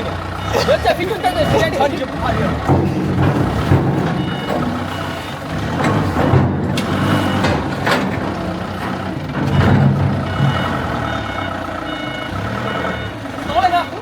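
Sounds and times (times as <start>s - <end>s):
reversing alarm beeping: 0.0s - 2.6s, 3.9s - 7.8s, 8.6s - 14.0s
heavy machinery engine rumble: 0.0s - 14.0s.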